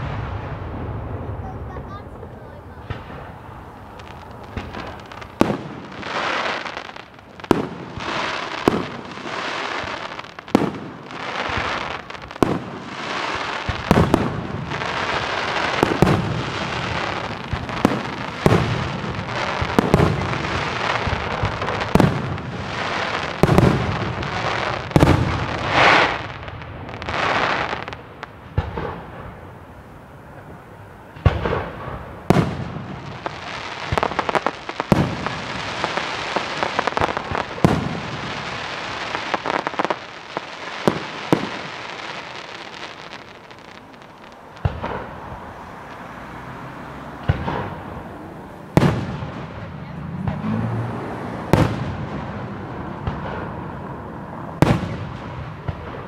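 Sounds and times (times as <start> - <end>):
crackle and hiss of burning stars: 0.0 - 46.1.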